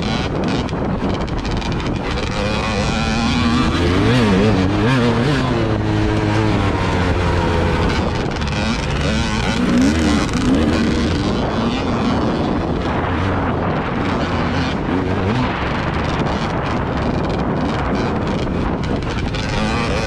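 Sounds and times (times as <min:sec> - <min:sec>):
engine revving: 0:00.0 - 0:20.0
wind noise on microphone: 0:00.0 - 0:20.0.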